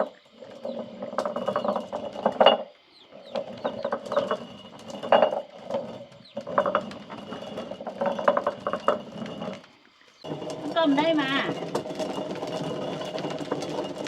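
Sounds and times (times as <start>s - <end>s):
kernels cracking: 0.0s - 14.0s
stone mill grinding corn: 0.0s - 14.0s.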